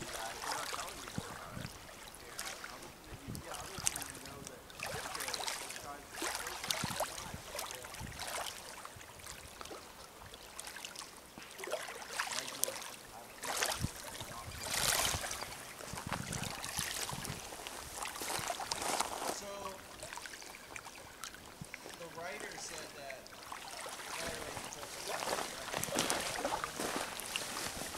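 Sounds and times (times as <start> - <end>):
waves lapping on pebble shore: 0.0 - 27.9.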